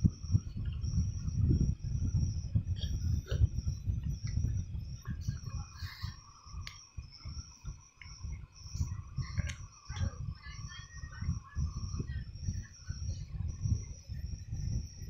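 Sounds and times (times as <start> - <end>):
crickets chirping: 0.0 - 15.0
low rumbling background noise: 0.0 - 15.0.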